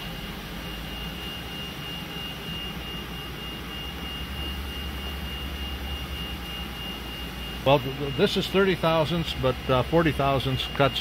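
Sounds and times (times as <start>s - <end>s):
steady background hum: 0.0s - 11.0s
thin high whine: 0.0s - 11.0s.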